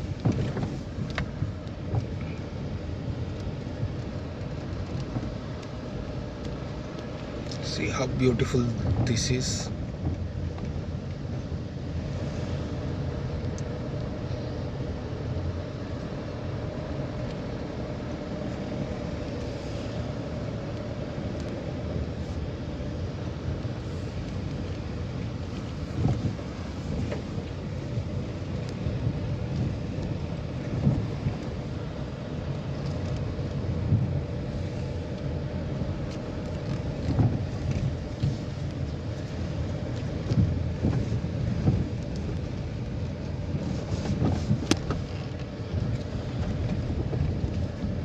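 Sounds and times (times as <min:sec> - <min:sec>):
vehicle engine and tyre rumble: 0:00.0 - 0:48.0.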